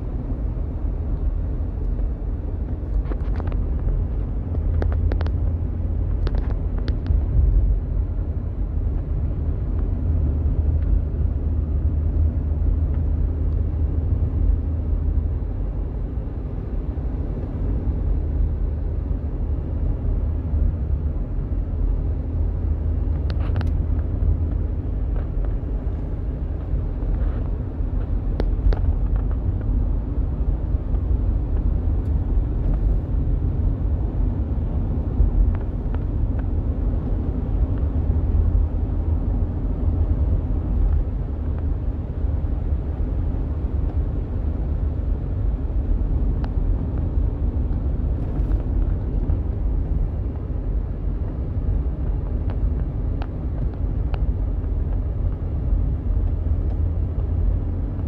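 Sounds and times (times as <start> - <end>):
car interior driving rumble: 0.0 - 58.0.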